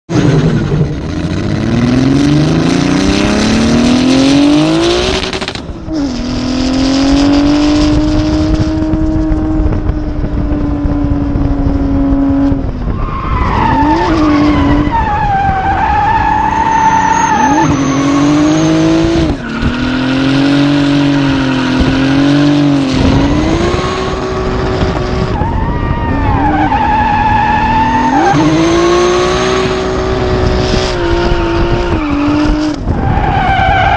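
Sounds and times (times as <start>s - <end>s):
car engine revving hard: 0.1s - 33.9s.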